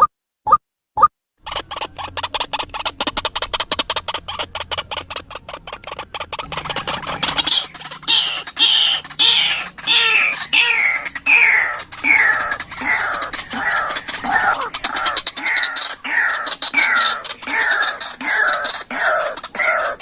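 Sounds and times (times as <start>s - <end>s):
waterhen calling: 1.4s - 20.0s.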